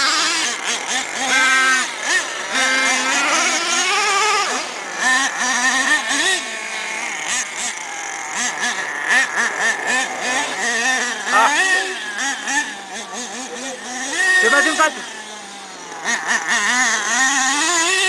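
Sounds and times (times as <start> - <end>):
small nitro engines buzzing: 0.0 - 18.0.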